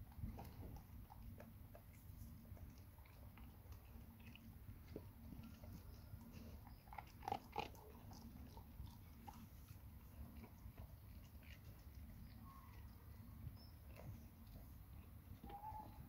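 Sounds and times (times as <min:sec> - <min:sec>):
dog chewing and biting: 0:00.0 - 0:16.0.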